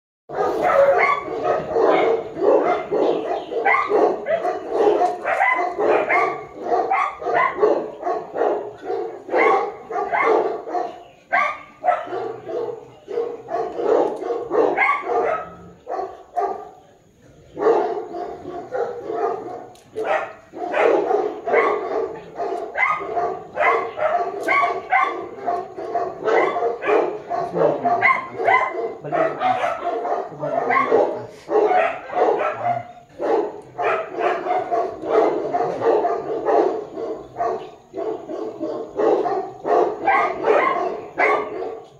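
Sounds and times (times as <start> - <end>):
dog barking rapidly: 0.3 - 16.7, 17.6 - 41.9.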